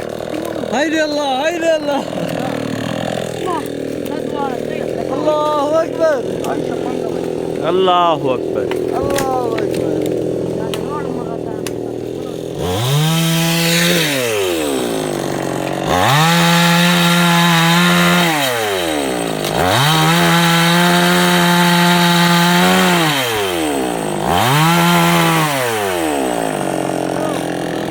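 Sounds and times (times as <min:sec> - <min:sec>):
chainsaw revving cutting wood: 0:00.0 - 0:27.9.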